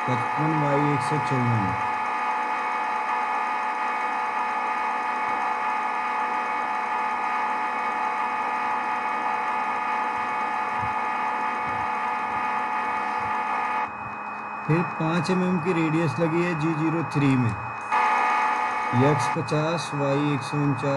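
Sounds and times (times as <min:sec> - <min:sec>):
milling machine hum: 0:00.0 - 0:20.9.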